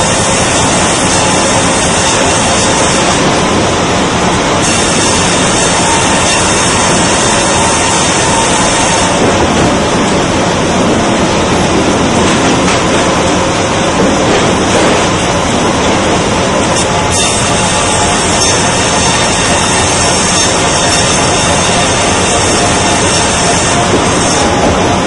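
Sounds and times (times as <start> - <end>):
band saw cutting log: 0.0 - 10.6, 12.4 - 25.0
mill machinery running: 0.0 - 25.0.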